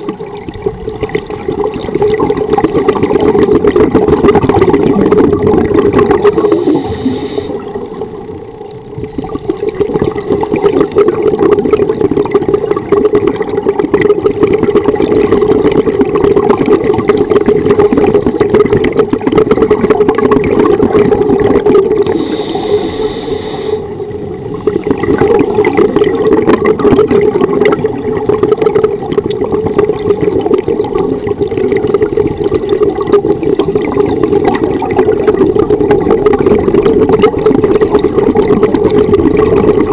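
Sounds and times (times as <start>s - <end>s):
underwater rumble with bubbling: 0.0s - 39.9s.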